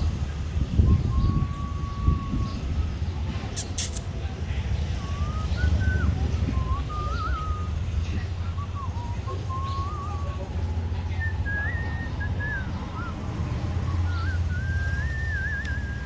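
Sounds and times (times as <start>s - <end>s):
person whistling: 0.8s - 4.0s, 5.0s - 16.0s.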